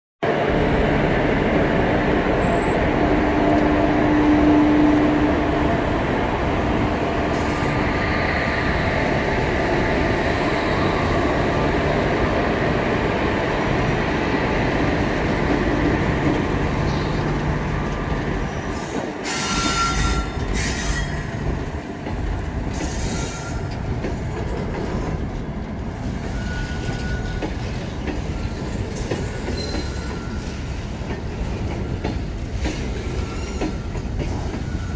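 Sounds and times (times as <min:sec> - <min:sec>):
electric locomotive hum: 0:00.2 - 0:34.9.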